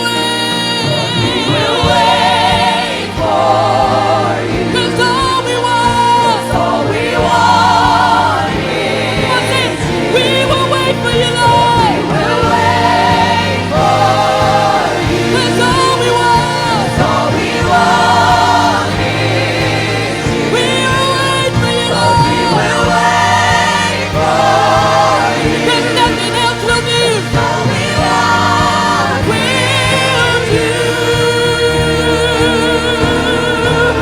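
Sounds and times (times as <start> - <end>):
instrumental accompaniment: 0.0 - 34.0
voices singing gospel song: 0.0 - 34.0.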